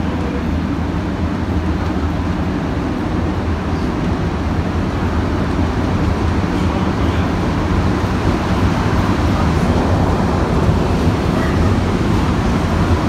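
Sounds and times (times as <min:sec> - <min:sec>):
train rumbling inside car: 0:00.0 - 0:13.0.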